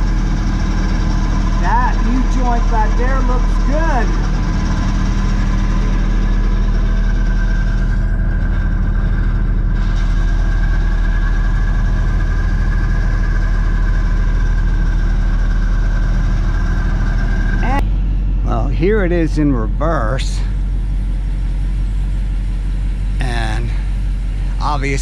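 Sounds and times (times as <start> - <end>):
drivetrain drone: 0.0 - 25.0
thin high whine: 0.0 - 25.0.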